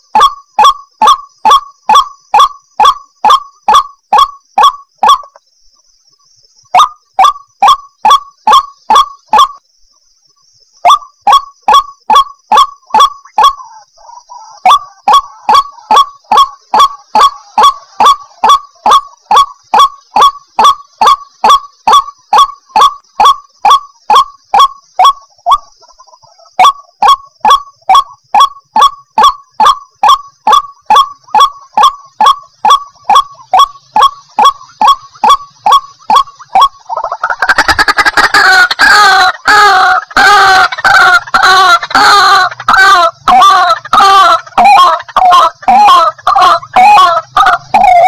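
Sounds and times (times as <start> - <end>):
waterhen calling: 0.0 - 5.4, 6.7 - 9.6, 10.8 - 48.0.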